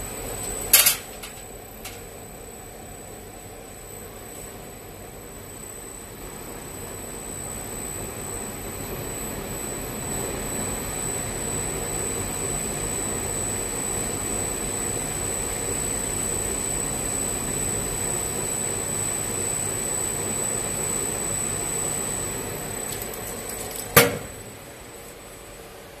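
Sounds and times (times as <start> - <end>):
thin high whine: 0.0 - 25.5.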